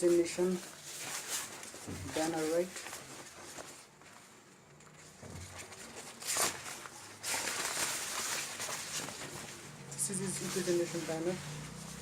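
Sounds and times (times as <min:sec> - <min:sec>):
banner rustling: 0:00.0 - 0:12.0.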